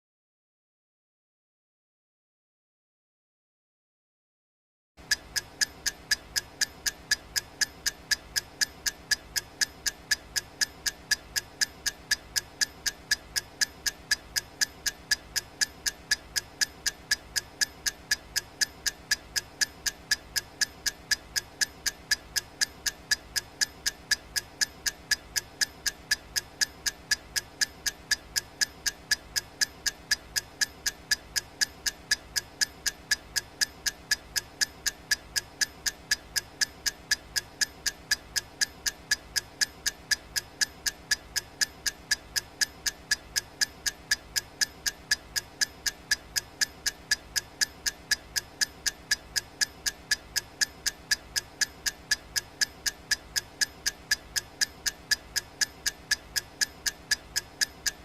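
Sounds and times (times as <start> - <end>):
clock ticking: 5.0 - 58.0.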